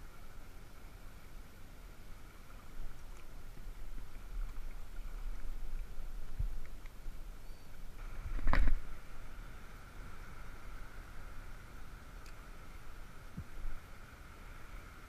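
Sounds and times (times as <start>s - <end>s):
shallow water lapping and sloshing: 0.0s - 15.0s.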